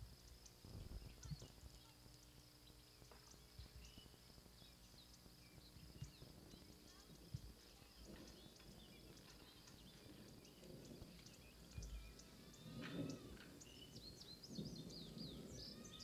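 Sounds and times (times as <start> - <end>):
bird chirps: 0.0 - 16.0.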